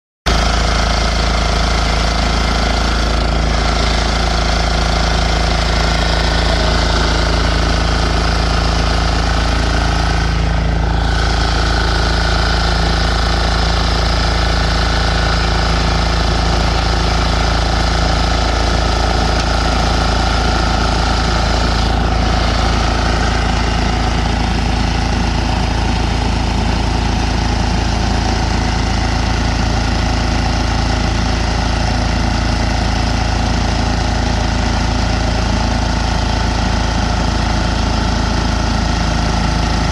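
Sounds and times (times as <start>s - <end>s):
lawn mower diesel engine running: 0.3s - 39.9s.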